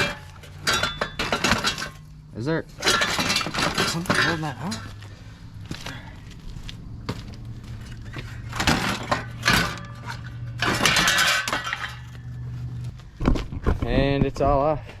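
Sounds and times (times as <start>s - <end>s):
steady low hum: 0.0s - 13.8s
car parts clattering and scraping: 0.0s - 15.0s.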